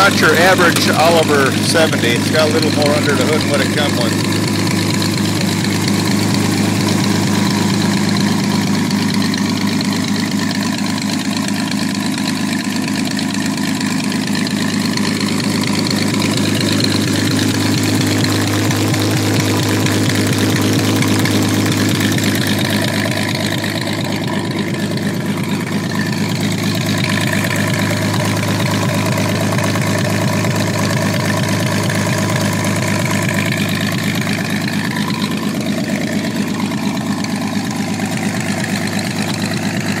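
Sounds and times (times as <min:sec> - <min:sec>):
tractor engine idling: 0:00.0 - 0:40.0.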